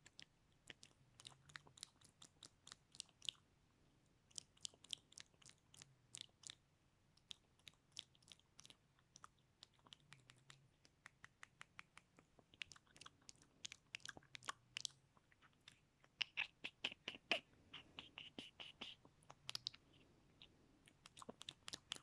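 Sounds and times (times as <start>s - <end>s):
wet mouth clicks and smacks: 0.0s - 3.4s, 4.3s - 6.6s, 7.2s - 19.8s, 20.8s - 22.0s.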